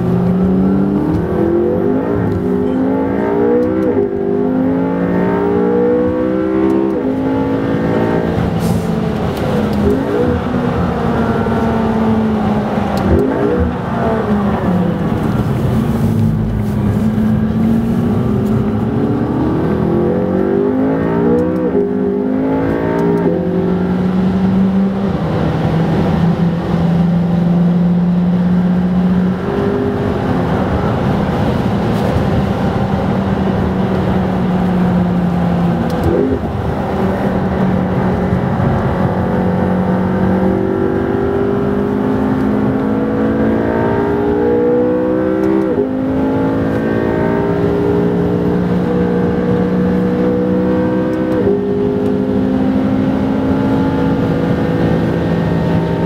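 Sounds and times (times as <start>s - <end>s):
car engine revving and shifting gears: 0.0s - 56.0s.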